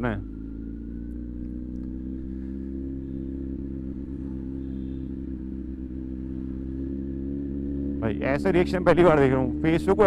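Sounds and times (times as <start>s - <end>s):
motorcycle engine running steadily: 0.0s - 10.0s.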